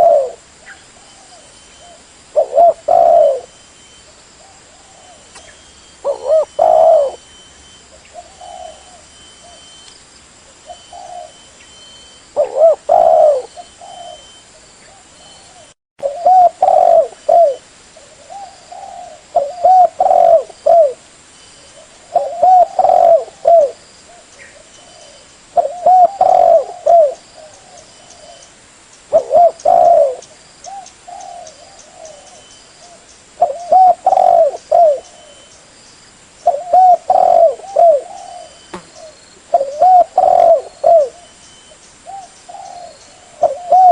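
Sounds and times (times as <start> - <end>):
dove cooing: 0.0 - 3.6, 4.4 - 9.8, 10.6 - 21.0, 21.7 - 28.5, 29.1 - 35.5, 36.4 - 43.9.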